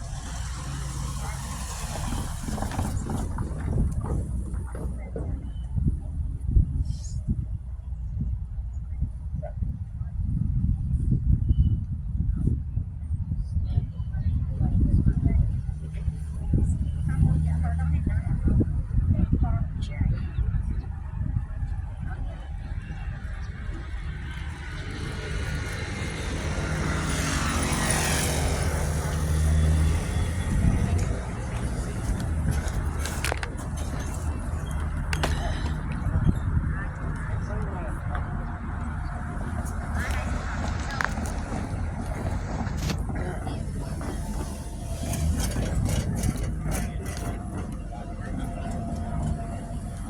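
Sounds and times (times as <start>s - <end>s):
diesel locomotive engine droning: 0.0s - 50.0s.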